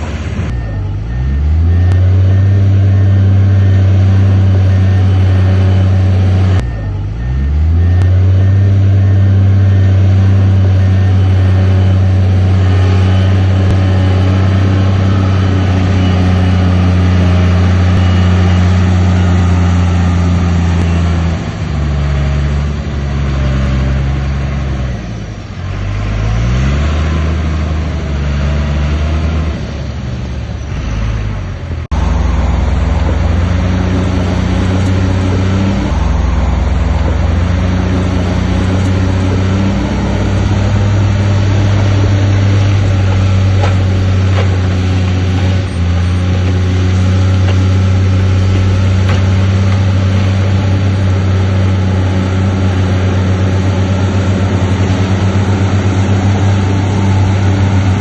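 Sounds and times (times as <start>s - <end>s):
heavy machinery diesel engine revving: 0.0s - 58.0s.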